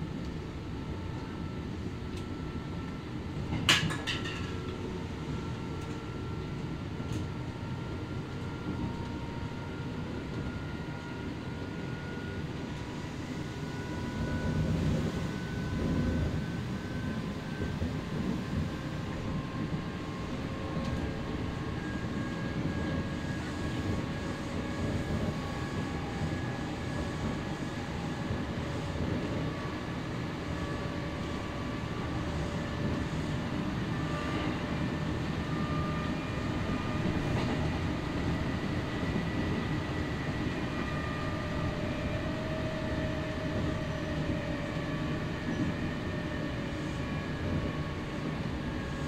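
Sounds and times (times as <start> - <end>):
train wheel and rail rumble: 0.0 - 49.0.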